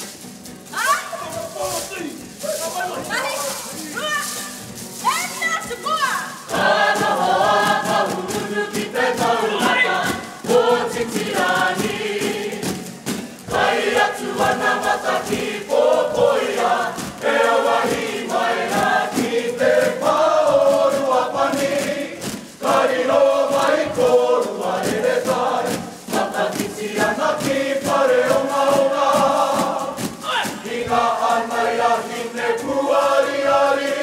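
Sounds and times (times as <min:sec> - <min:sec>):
group singing in unison: 0:06.4 - 0:34.0.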